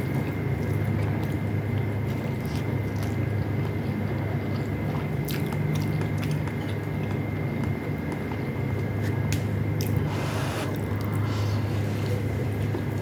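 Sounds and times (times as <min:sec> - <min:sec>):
chewing food: 0:00.0 - 0:13.0
steady low hum: 0:00.0 - 0:13.0.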